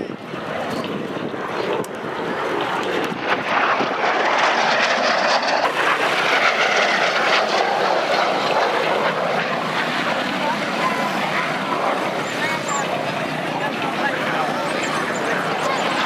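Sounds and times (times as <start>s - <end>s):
airplane flying low overhead: 0.0s - 16.0s.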